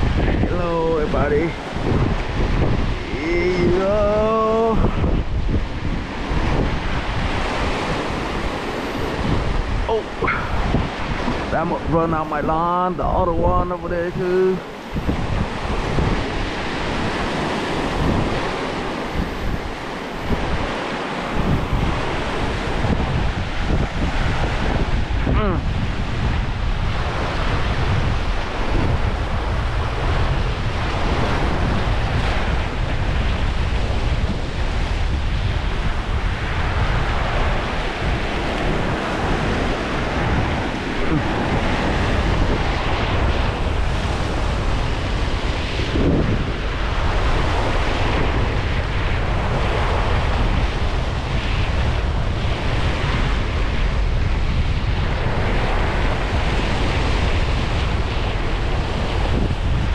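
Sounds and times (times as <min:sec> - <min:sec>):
strong wind buffeting microphone: 0:00.0 - 0:59.9.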